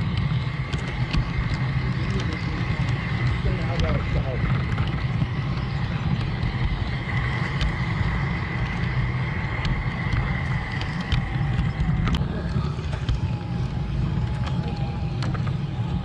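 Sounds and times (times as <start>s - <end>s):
low rumble: 0.0s - 16.0s
model train motor whine: 0.0s - 16.0s
wheels clicking over rail joints: 0.0s - 16.0s.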